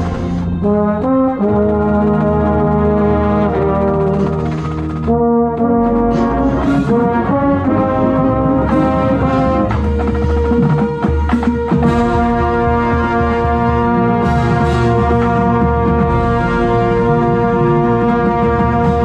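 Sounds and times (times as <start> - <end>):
trombone playing notes: 0.0 - 19.0.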